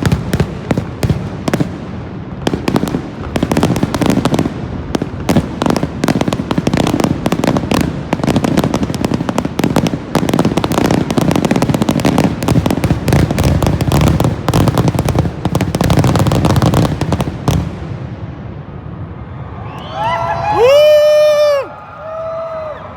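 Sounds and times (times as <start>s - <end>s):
fireworks bursts and crackling bangs: 0.0s - 19.2s.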